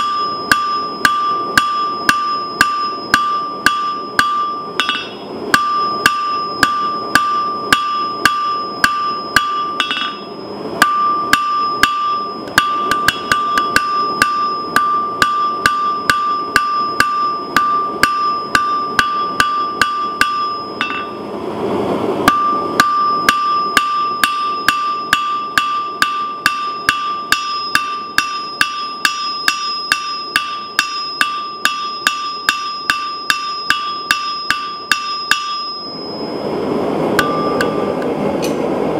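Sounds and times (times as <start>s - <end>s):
anvil ringing: 0.0s - 21.2s, 22.2s - 36.4s, 37.2s - 38.6s
hammer beating steel on anvil: 0.0s - 21.2s, 22.2s - 36.3s, 37.2s - 38.6s.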